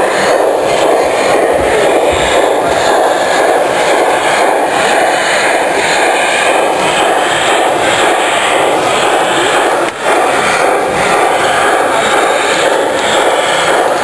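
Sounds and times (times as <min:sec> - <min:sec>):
model steam locomotive running: 0:00.0 - 0:14.0.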